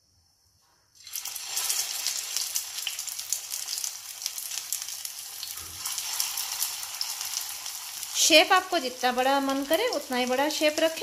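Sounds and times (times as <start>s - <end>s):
oil sizzling and crackling: 1.0s - 11.0s.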